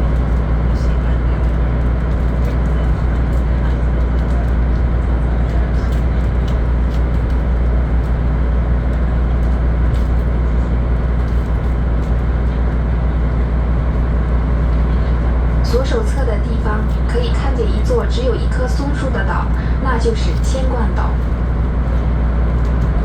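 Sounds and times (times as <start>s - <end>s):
boat engine drone: 0.0s - 23.0s.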